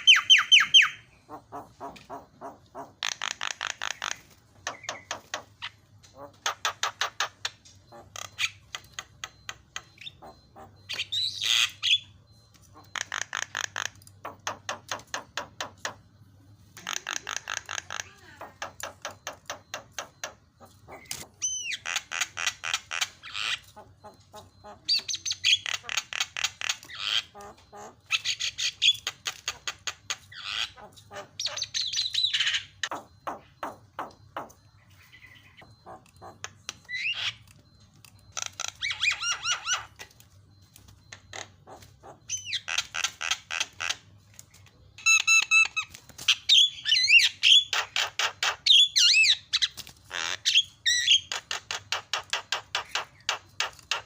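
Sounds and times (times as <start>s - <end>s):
bird chattering and whistling: 0.0s - 54.0s.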